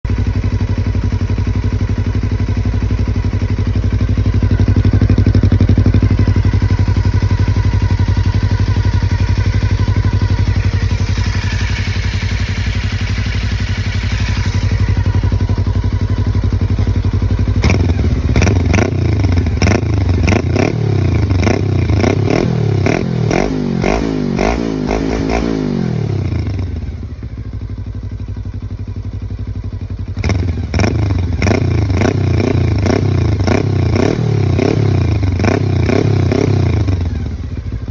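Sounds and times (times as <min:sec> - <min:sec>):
motorcycle idling and revving: 0:00.0 - 0:37.9.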